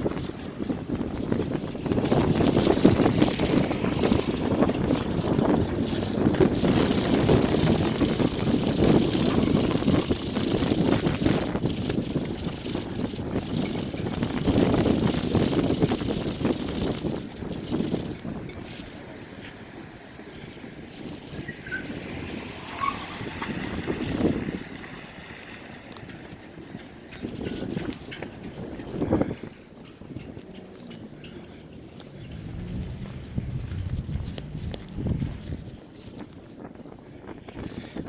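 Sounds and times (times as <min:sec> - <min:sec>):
strong wind buffeting microphone: 0:00.0 - 0:38.0.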